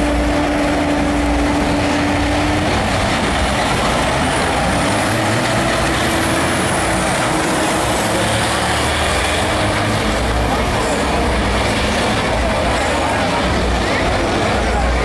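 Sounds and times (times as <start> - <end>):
diesel truck engines at full throttle: 0.0 - 15.0.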